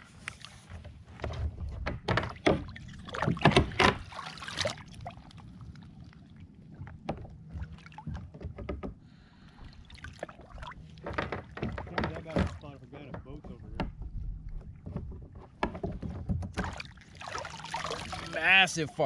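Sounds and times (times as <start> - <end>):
knocks and clatter against kayak: 0.2 - 4.7, 6.8 - 18.3.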